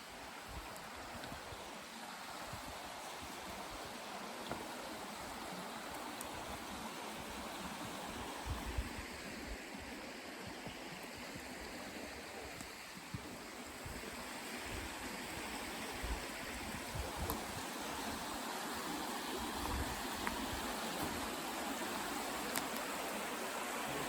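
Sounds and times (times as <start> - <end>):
stream water flowing: 0.0 - 24.0.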